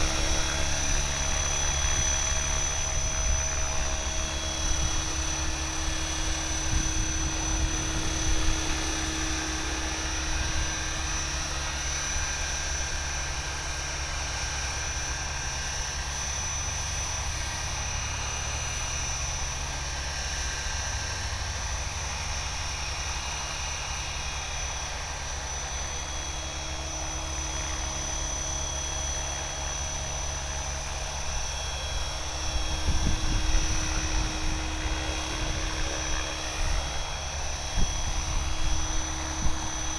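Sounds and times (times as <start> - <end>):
rotor blades whirring: 0.0 - 17.6, 21.7 - 39.9
electric motor whine: 0.0 - 39.9.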